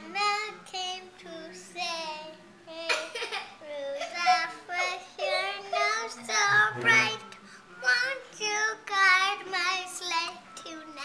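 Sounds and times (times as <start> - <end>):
boy singing: 0.0 - 11.0.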